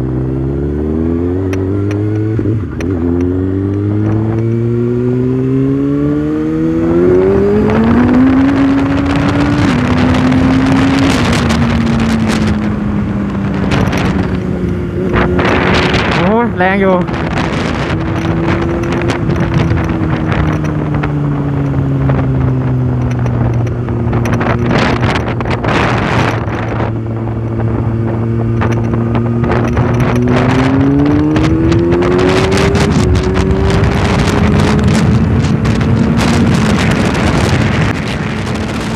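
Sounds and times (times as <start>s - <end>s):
motorcycle engine accelerating: 0.0s - 38.9s
wind rushing over microphone: 0.0s - 38.9s.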